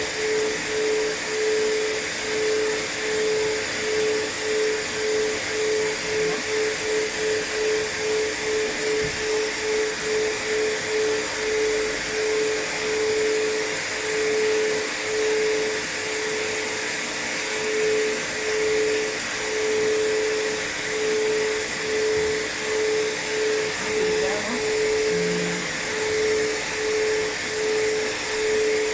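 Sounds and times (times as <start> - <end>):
blow dryer running: 0.0 - 28.9.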